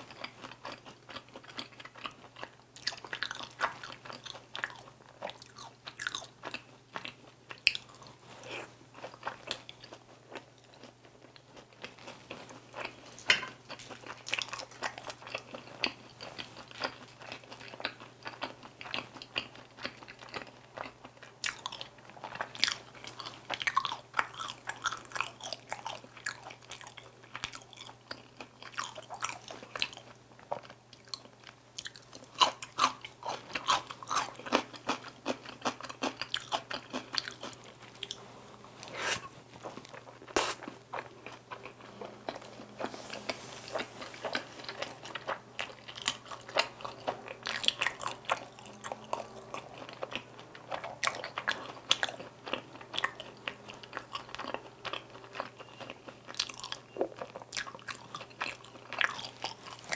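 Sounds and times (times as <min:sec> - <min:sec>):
crunching fried chicken: 0:00.0 - 0:38.2, 0:38.8 - 0:59.9.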